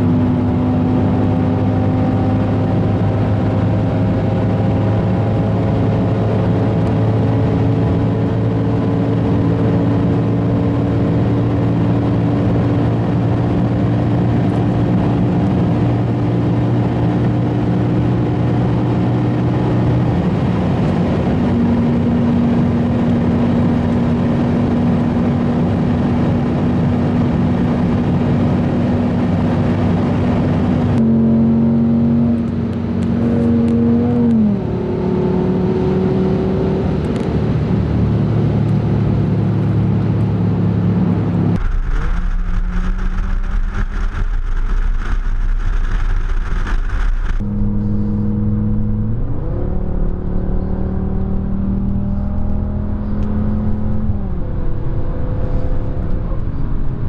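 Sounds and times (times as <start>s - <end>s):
car engine at full throttle: 0.0s - 57.0s
wind and tyre noise: 0.0s - 57.0s.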